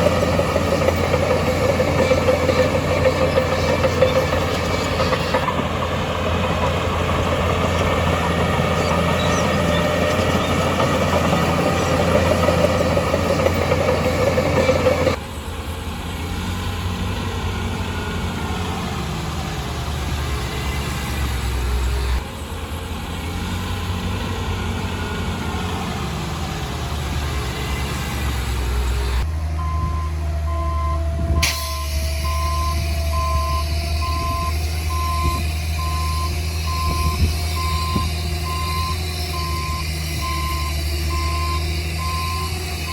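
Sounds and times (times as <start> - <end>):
construction machinery diesel engines: 0.0 - 42.9.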